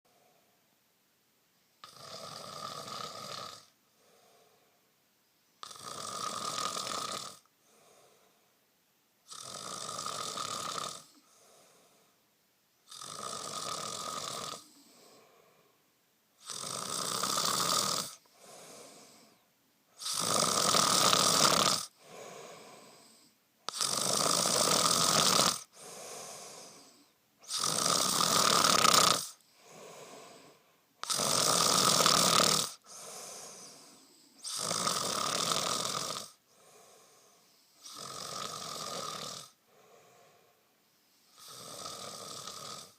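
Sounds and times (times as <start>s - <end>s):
man snoring: 1.8s - 4.5s, 5.6s - 8.3s, 9.3s - 12.1s, 12.9s - 15.7s, 16.4s - 19.4s, 20.0s - 40.6s, 41.2s - 42.9s.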